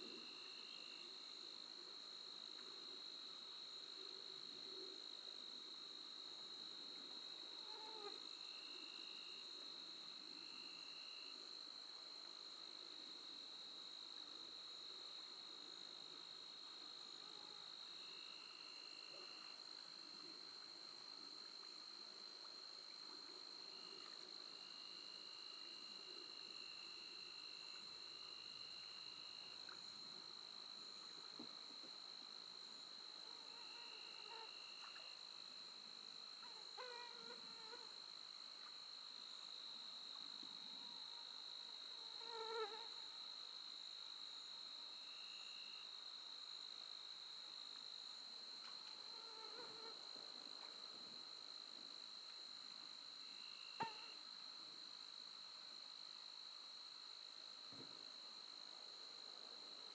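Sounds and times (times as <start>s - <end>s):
insect drone: 0.0s - 59.9s
low insect trill: 0.1s - 59.8s.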